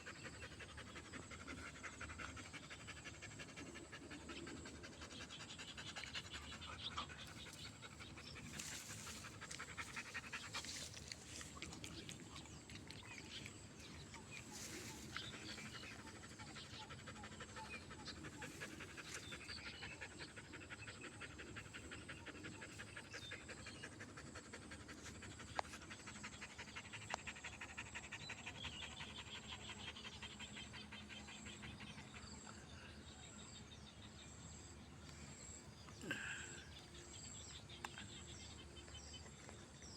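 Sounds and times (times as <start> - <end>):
dog panting: 0.0 - 34.0.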